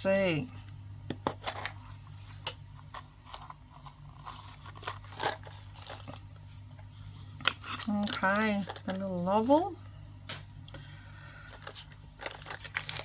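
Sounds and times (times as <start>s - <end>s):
plastic packaging crinkling: 1.2s - 9.7s, 10.7s - 13.0s.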